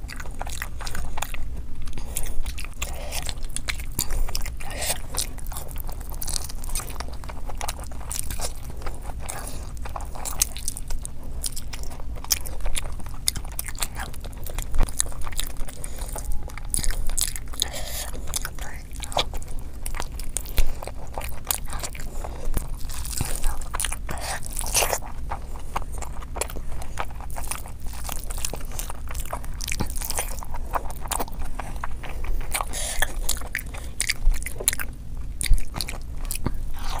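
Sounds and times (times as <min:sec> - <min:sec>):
chewing and wet mouth smacks: 0:00.0 - 0:37.0.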